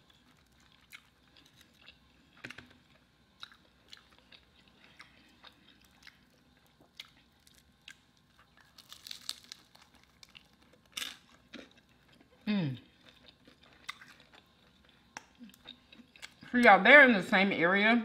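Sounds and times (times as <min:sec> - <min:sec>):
crunchy chewing: 0:00.0 - 0:16.5.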